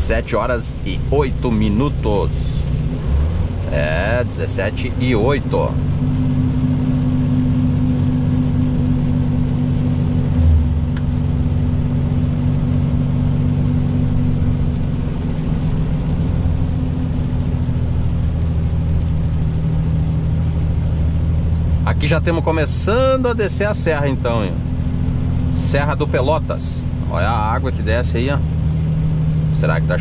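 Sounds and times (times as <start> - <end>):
truck diesel engine drone: 0.0 - 30.0.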